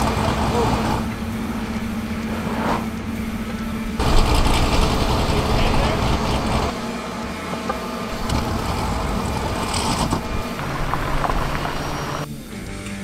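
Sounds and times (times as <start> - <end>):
steady hum: 0.0 - 13.0
truck engine rumbling: 0.0 - 13.0.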